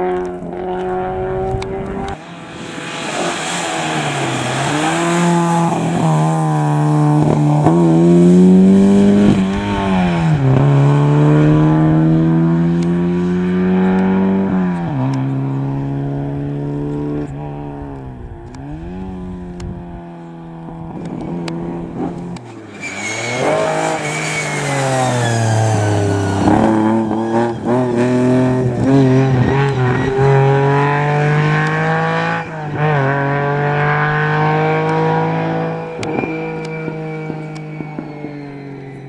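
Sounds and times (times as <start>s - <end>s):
rally car engine revving past: 0.0s - 38.7s.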